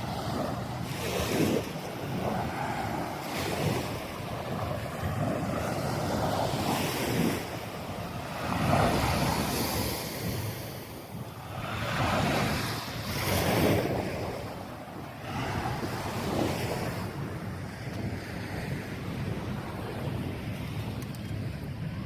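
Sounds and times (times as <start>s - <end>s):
waves washing onto sand: 0.0s - 22.0s
wind buffeting microphone: 0.0s - 22.0s.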